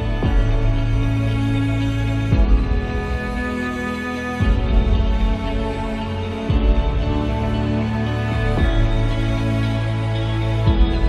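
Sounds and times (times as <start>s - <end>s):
slow sustained chords music: 0.0s - 11.0s.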